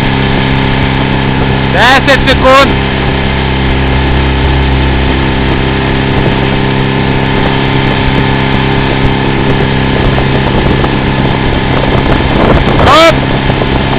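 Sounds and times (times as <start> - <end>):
motorboat engine running: 0.0 - 13.9.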